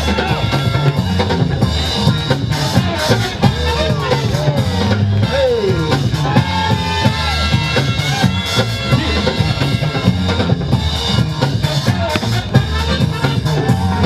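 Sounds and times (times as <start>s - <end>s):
breakbeat music: 0.0s - 14.0s
heavy bass: 0.0s - 14.0s.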